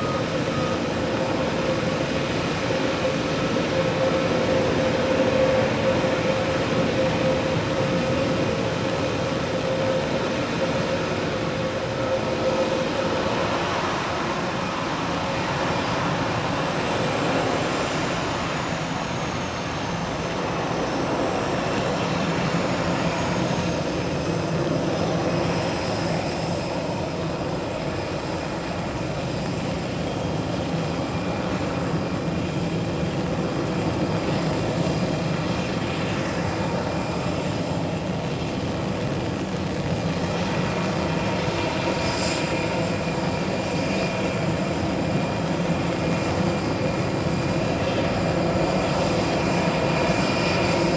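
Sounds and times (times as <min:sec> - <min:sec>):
jet engines high whine: 0:00.0 - 0:50.9.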